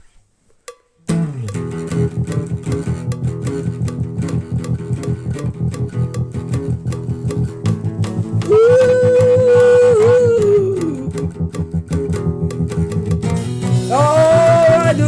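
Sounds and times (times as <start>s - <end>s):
blues guitar playing: 1.0s - 15.0s.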